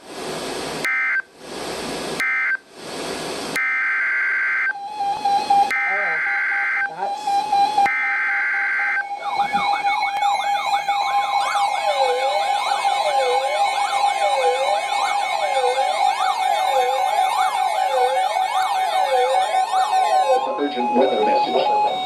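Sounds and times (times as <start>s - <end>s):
steady tone: 3.5s - 22.0s
digital header data screech: 3.6s - 22.0s
wailing siren tones: 3.6s - 22.0s.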